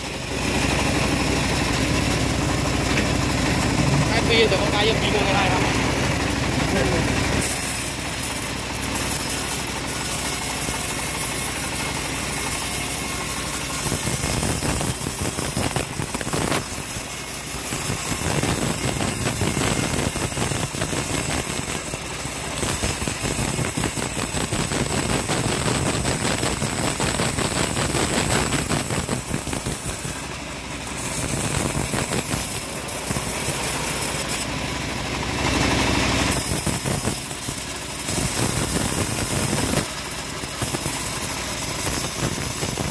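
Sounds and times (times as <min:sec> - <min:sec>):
bandsaw blade ripping wood: 0:00.0 - 0:42.9.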